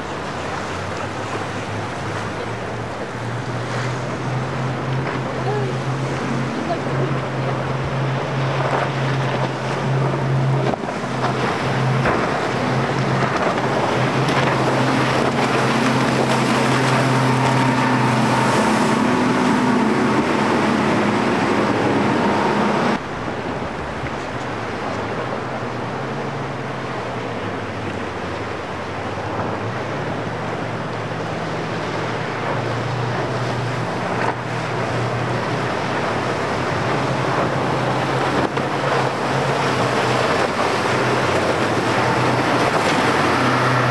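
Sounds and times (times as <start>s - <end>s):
hull splashing through water: 0.0s - 43.9s
outboard engines running: 0.0s - 43.9s.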